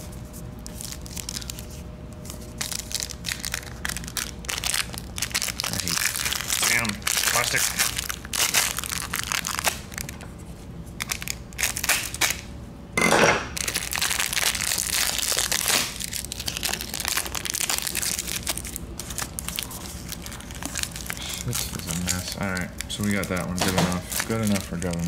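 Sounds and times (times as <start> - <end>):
plastic packaging crinkling: 0.0 - 12.5, 13.5 - 25.0.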